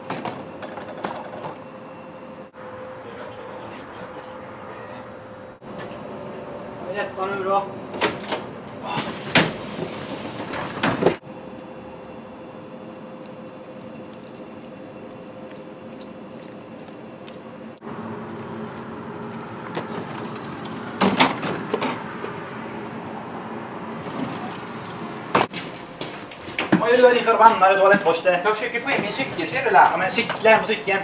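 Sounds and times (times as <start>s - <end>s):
tram clicking and rattling: 0.0s - 1.7s, 3.0s - 11.2s, 12.9s - 22.9s, 23.5s - 31.0s
steady electric hum: 0.0s - 9.8s, 10.9s - 19.9s, 24.8s - 31.0s.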